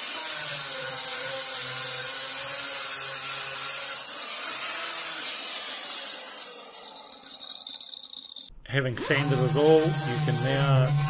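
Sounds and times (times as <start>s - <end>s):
angle grinder sanding steel: 0.0s - 11.0s.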